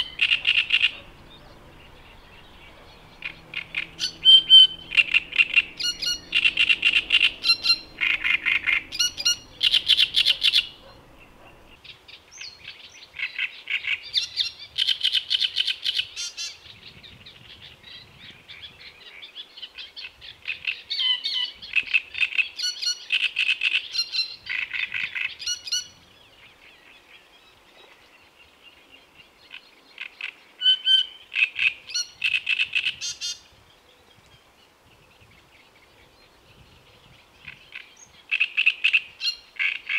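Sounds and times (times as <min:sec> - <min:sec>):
warbler singing harsh song: 0:00.0 - 0:33.6.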